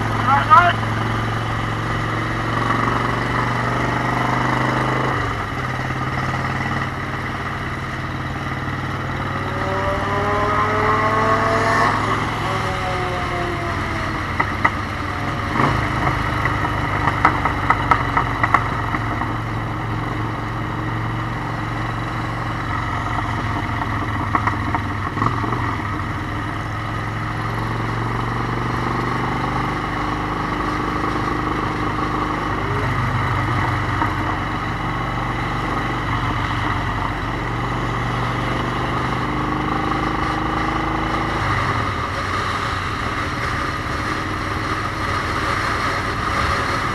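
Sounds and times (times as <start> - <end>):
motorcycle engine running: 0.0 - 46.9
other engines passing: 0.0 - 46.9.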